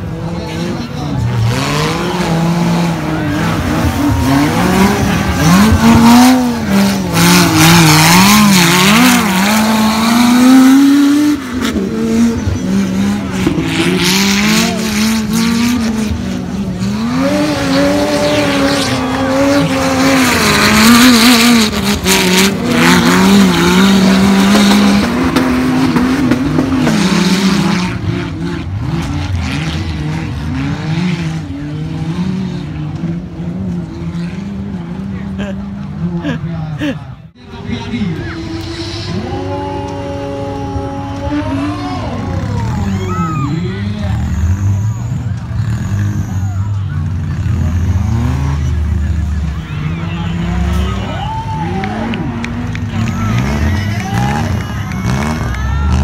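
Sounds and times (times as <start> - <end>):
race vehicle engines revving: 0.0 - 56.0.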